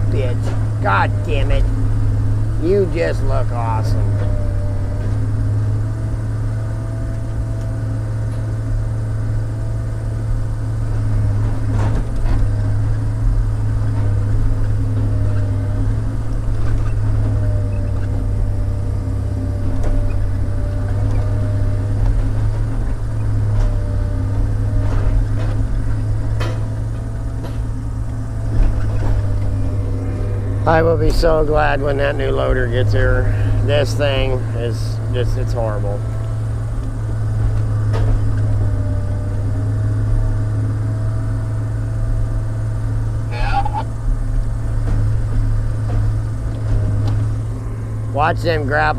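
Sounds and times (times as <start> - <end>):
diesel engine running: 0.0 - 48.9
hydraulic whine: 0.0 - 48.9.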